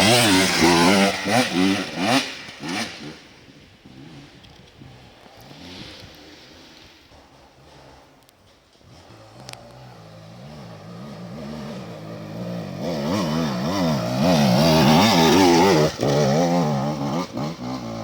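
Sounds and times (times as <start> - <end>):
motorcycle engine revving past: 0.0 - 18.0.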